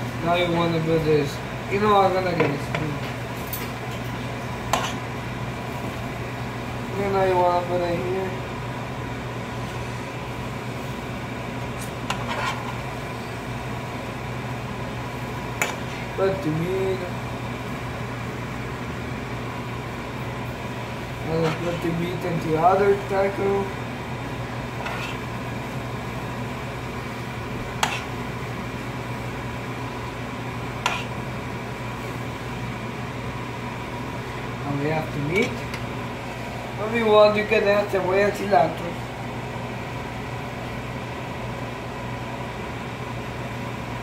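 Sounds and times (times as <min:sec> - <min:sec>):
exhaust fan humming: 0:00.0 - 0:44.0.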